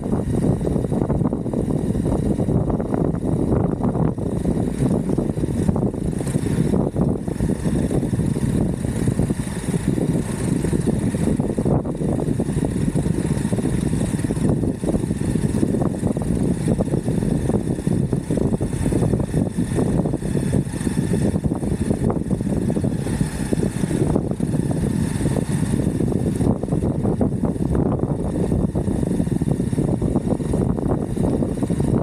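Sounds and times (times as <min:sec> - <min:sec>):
skateboard wheels rumbling on road: 0:00.0 - 0:32.0.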